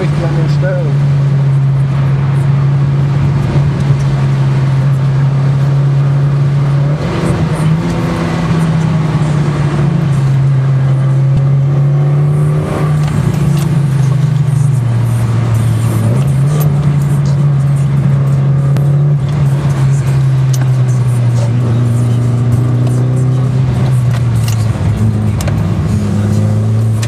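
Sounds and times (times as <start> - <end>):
car engine droning from inside: 0.0 - 27.0.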